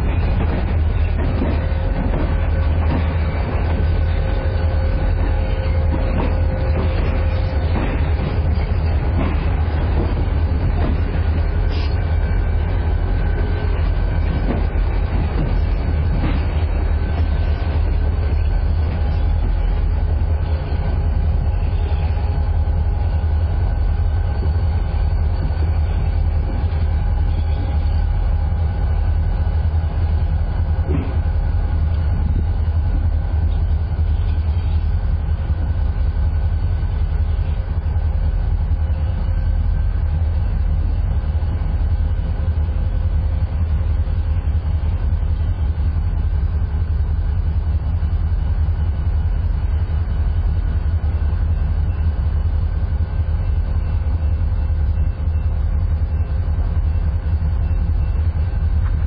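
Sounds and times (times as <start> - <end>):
locomotive low rumble: 0.0 - 59.0.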